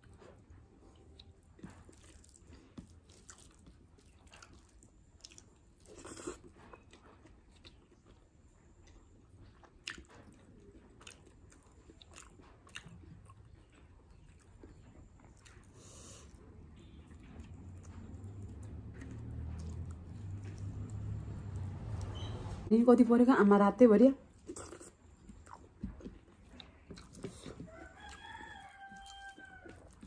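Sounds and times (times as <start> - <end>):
chewing with mouth clicks: 0.0 - 22.7, 24.3 - 30.0.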